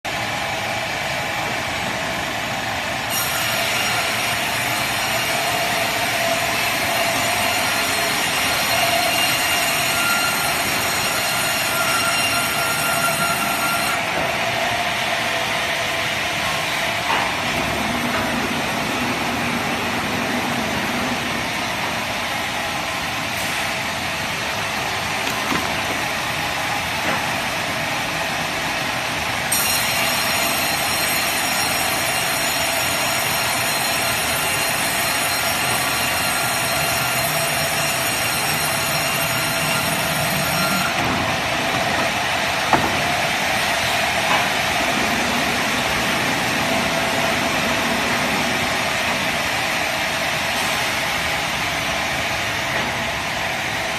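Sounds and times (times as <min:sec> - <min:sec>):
band saw running: 0:02.8 - 0:52.4.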